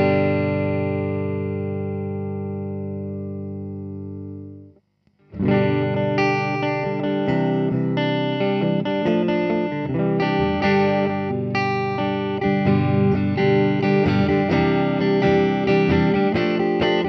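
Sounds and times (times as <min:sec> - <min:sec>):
clean electric guitar: 0:00.0 - 0:17.0.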